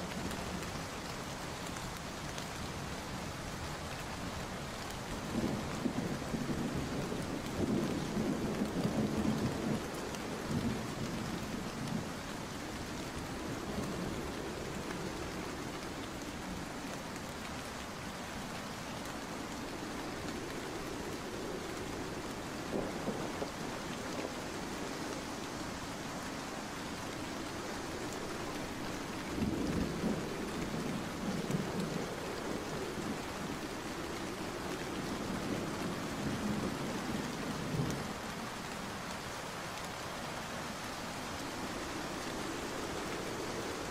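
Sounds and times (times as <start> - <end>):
heavy rain hissing and pattering: 0.0 - 43.9.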